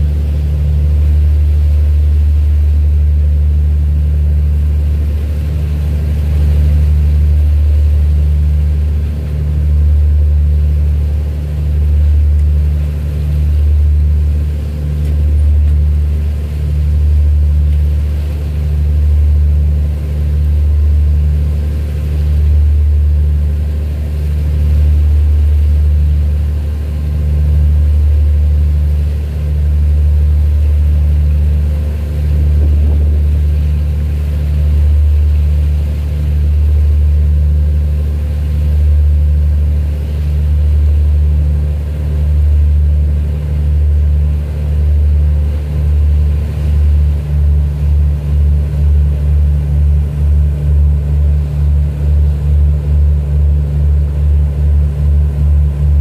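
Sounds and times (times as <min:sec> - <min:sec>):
engine droning: 0:00.0 - 0:56.0
steady hum tones: 0:00.0 - 0:56.0.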